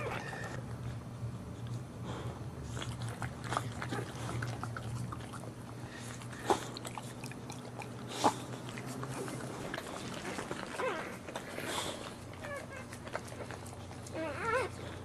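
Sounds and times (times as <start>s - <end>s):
dog licking puppies: 2.6s - 15.0s.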